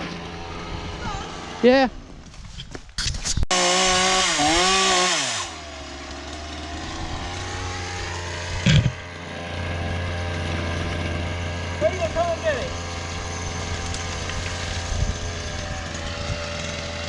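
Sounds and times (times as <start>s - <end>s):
chainsaw running: 0.0s - 1.9s, 3.5s - 17.0s.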